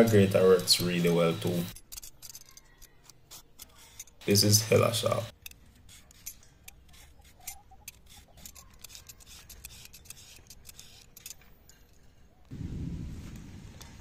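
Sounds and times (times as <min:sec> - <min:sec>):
peeler scraping dried coconut: 0:00.0 - 0:12.5.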